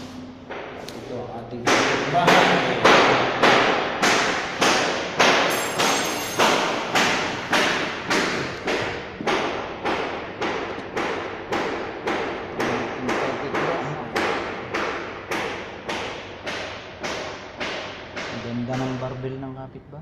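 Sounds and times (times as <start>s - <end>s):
hammer blows ringing: 0.0s - 19.2s.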